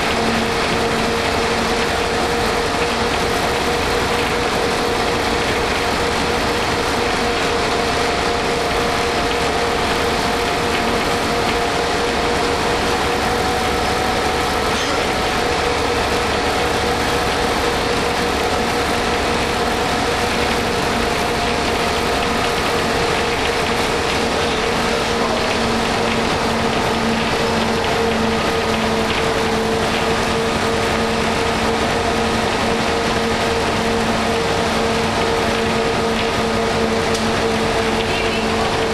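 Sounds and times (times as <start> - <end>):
bus diesel engine running: 0.0 - 38.9
constant whine: 0.0 - 38.9
road noise: 0.0 - 38.9.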